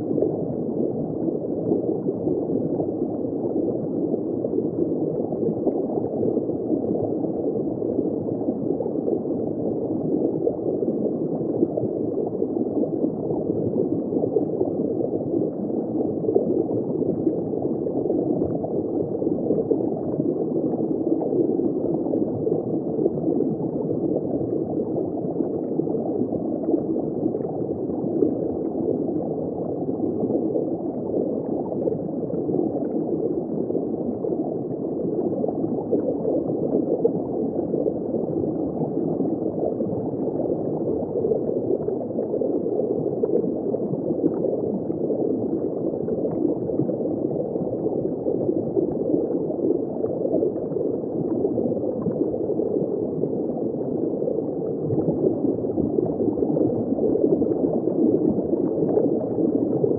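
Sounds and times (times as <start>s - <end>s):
muffled underwater bubbling: 0.0s - 59.9s.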